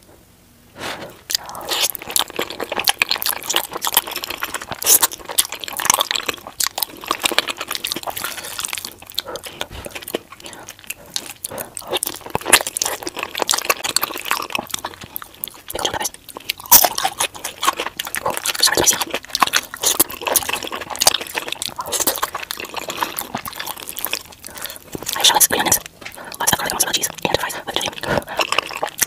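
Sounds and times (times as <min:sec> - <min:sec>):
wet chewing and lip-smacking: 0:00.9 - 0:29.0.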